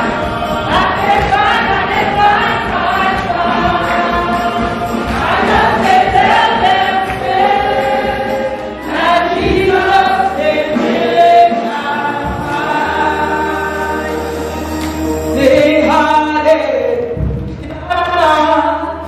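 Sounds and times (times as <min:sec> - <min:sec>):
congregation singing a hymn: 0:00.0 - 0:17.3.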